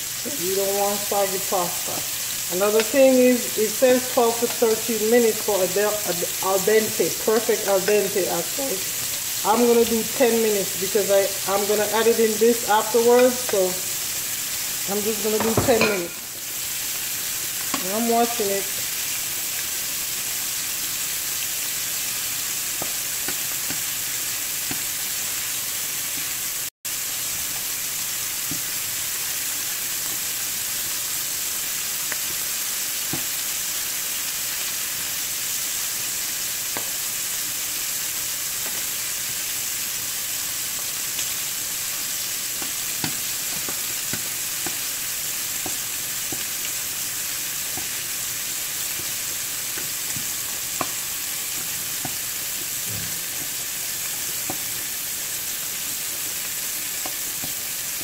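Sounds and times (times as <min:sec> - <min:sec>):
shrimp sizzling in pan: 0:00.0 - 0:58.0.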